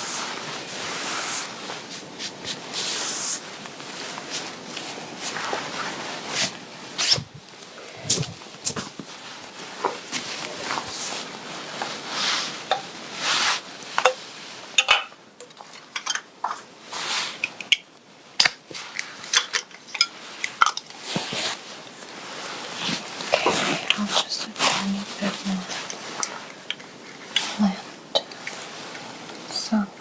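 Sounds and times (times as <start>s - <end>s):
fabric rustling: 0.0s - 14.8s, 16.6s - 17.4s, 20.1s - 29.8s.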